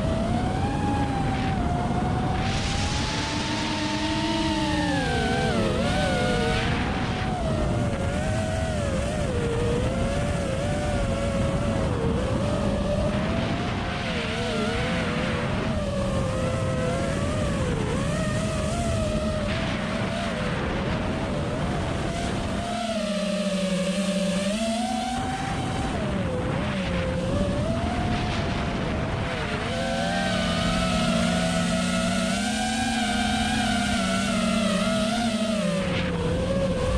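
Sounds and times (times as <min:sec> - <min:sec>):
quadcopter motors whining: 0:00.0 - 0:36.9.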